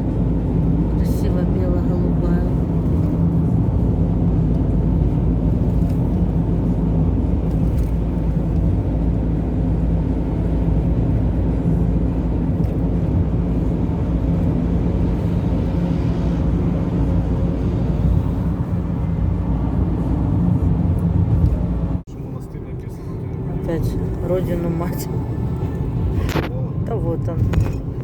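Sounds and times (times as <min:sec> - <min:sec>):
car engine: 0:00.0 - 0:28.0
road noise: 0:00.0 - 0:28.0.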